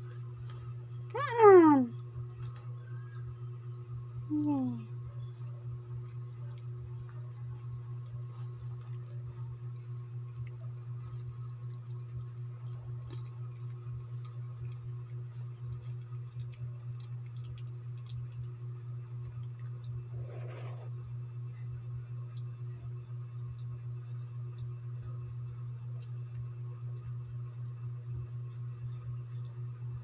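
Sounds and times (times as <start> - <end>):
cats chewing: 0.0 - 0.9, 4.9 - 30.0
low hum: 0.0 - 30.0.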